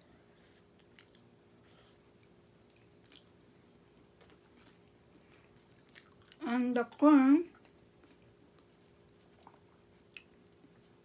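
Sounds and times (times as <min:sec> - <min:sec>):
low steady hum: 0:00.0 - 0:11.0
person chewing food: 0:00.4 - 0:06.4, 0:07.5 - 0:11.0.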